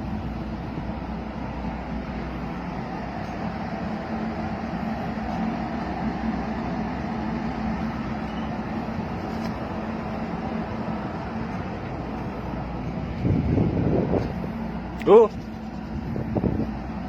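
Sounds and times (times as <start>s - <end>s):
steady low droning hum: 0.0s - 17.0s.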